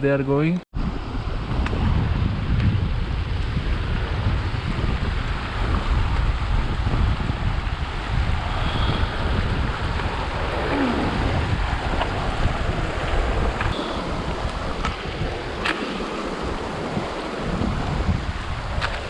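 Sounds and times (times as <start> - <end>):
wind buffeting microphone: 0.8 - 19.0.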